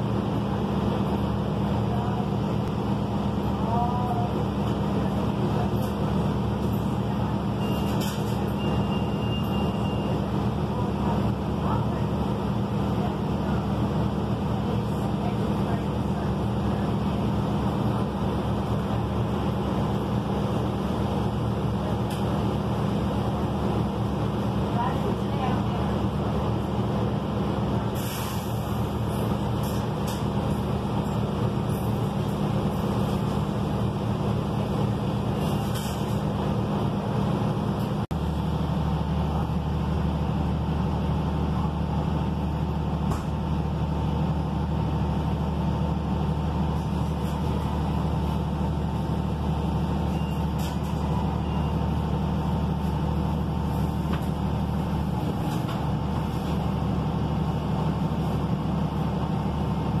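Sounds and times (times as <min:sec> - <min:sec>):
bus diesel engine idling: 0:00.0 - 1:00.0.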